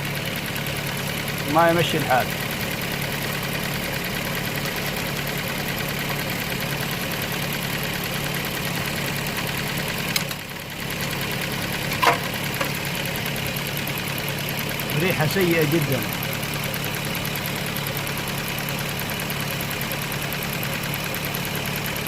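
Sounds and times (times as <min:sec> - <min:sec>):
car engine idling: 0:00.0 - 0:22.0
exhaust leak ticking: 0:00.0 - 0:22.0.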